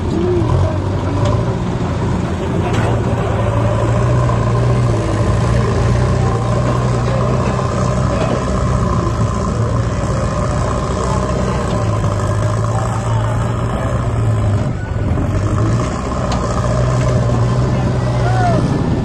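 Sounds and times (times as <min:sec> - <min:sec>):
backhoe loader engine running: 0:00.0 - 0:19.0
tractor diesel engine running: 0:00.0 - 0:19.0.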